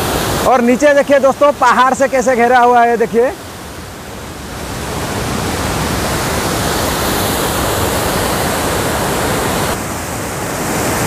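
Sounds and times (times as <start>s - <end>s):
waterfall roaring over rocks: 0.0s - 11.0s.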